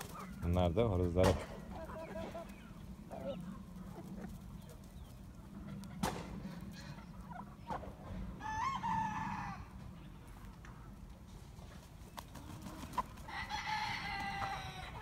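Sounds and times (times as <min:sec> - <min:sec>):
chickens and roosters clucking: 0:00.0 - 0:15.0.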